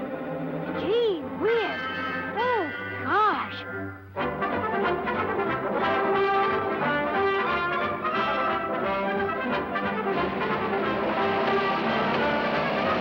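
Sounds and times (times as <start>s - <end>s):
orchestral cartoon music with brass: 0.0s - 13.0s.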